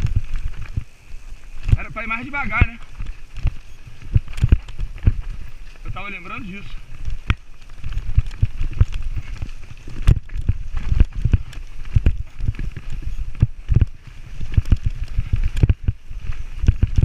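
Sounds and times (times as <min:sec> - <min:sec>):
mountain bike clattering: 0:00.0 - 0:17.0
wind rumble on camera: 0:00.0 - 0:17.0.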